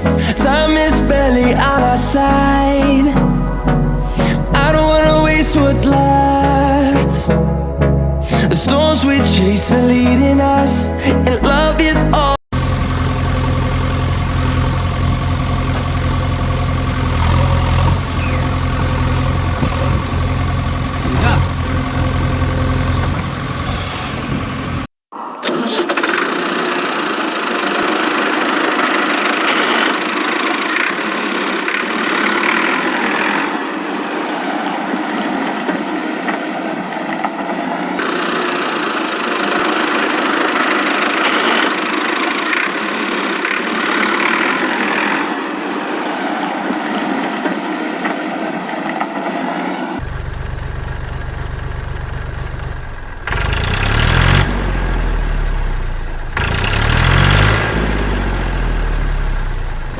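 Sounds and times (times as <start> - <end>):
engine running: 0.0 - 10.6, 11.3 - 48.2, 50.0 - 59.9.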